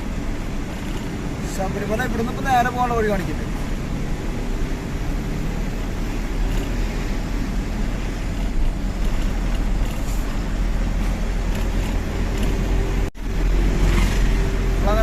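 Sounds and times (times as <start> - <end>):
road noise: 0.0 - 15.0
truck diesel engine: 0.0 - 15.0.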